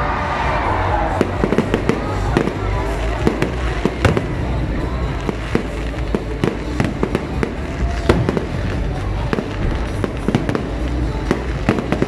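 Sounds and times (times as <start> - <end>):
steady low rumble: 0.0 - 12.0
fireworks bangs and crackles: 0.2 - 12.0.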